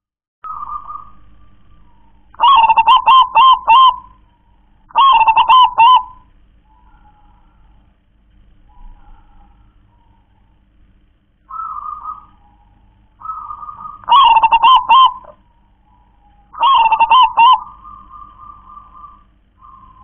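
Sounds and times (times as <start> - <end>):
dove cooing: 0.5 - 7.9, 8.6 - 10.7, 11.5 - 20.0.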